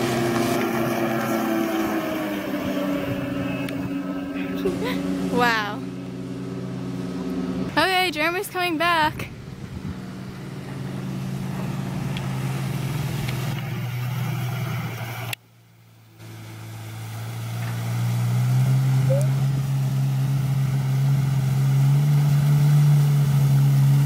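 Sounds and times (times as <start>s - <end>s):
jet ski engine droning: 0.0s - 24.0s.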